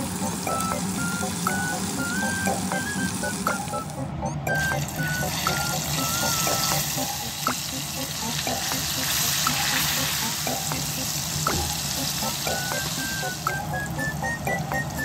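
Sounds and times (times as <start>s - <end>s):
oil sizzling and bubbling: 0.0s - 15.0s.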